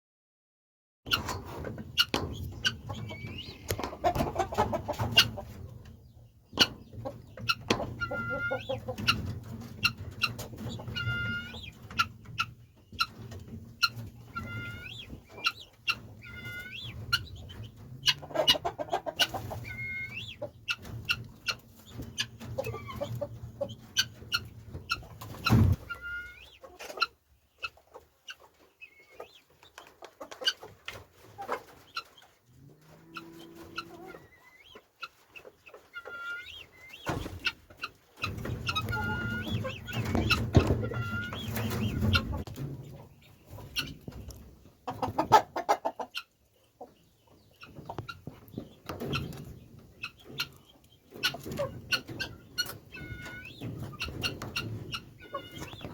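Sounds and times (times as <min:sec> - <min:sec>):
chickens clucking: 0:01.1 - 0:55.9.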